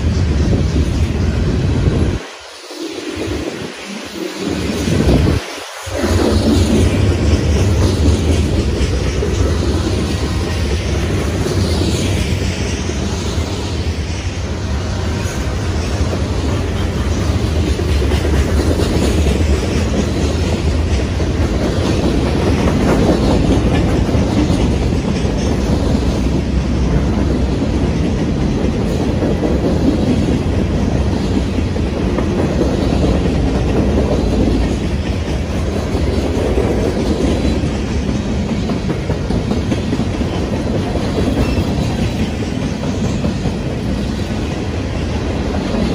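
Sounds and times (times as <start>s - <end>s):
train cars rumbling past: 0.0s - 45.9s.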